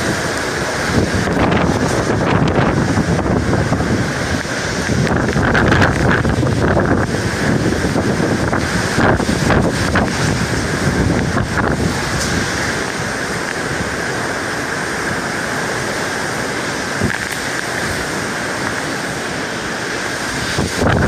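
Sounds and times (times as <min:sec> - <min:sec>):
wind and rain rushing: 0:00.0 - 0:21.0
wind gusts buffeting microphone: 0:00.0 - 0:21.0.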